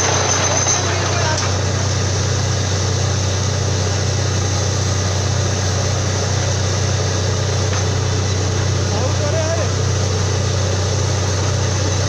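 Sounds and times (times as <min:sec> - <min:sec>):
drilling rig engine drone: 0:00.0 - 0:12.0.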